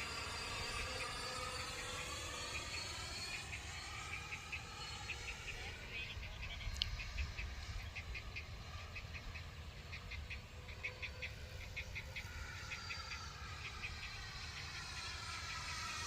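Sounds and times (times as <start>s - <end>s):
faint electric fan whine: 0.0s - 16.0s.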